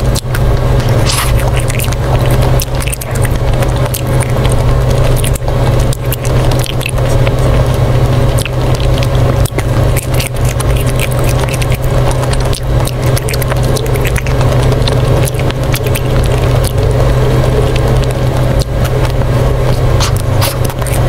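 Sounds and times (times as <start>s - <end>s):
chewing ice cream bar: 0.0s - 21.0s
crisp crackles of coating: 0.0s - 21.0s
steady low hum: 0.0s - 21.0s.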